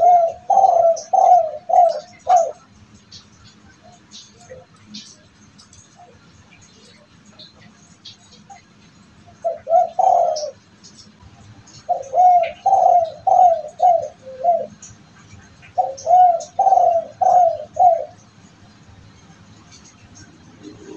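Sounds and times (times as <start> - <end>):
dove cooing: 0.0 - 7.1, 9.3 - 18.4, 19.7 - 20.9.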